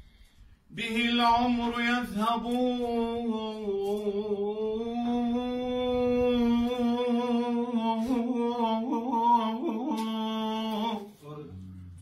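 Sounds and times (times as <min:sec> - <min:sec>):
man singing unaccompanied: 0:00.7 - 0:12.0.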